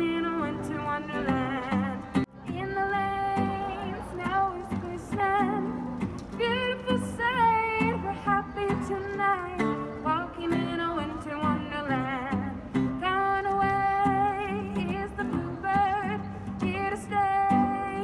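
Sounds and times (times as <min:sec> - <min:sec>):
plucked guitar notes: 0:00.0 - 0:18.0.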